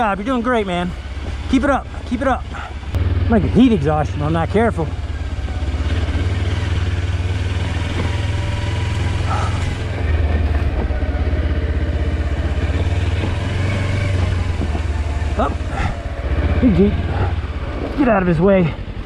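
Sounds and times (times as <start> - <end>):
motorcycle engine drone: 0.0 - 19.0.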